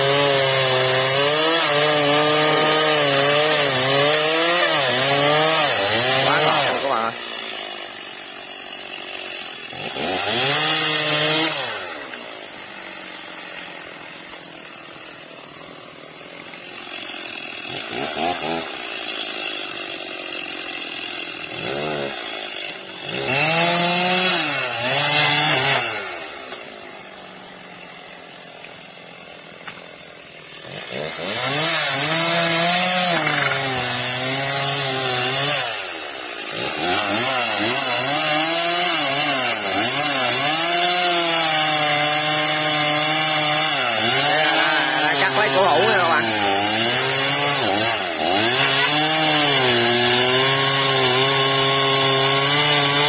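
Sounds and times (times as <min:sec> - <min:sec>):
chainsaw revving and cutting wood: 0:00.0 - 0:53.0.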